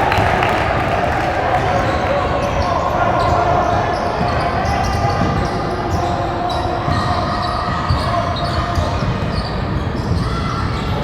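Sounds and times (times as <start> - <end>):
voices echoing in a hall: 0.0 - 11.0.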